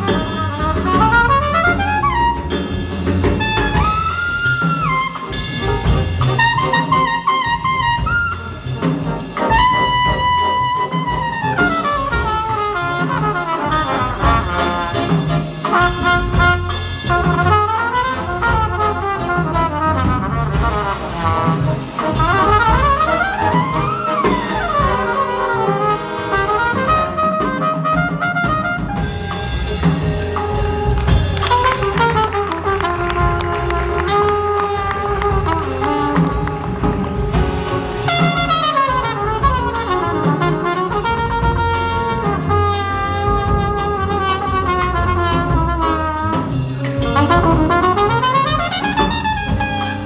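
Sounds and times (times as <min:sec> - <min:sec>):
big band playing jazz: 0:00.0 - 0:50.0
trumpet solo: 0:00.0 - 0:50.0.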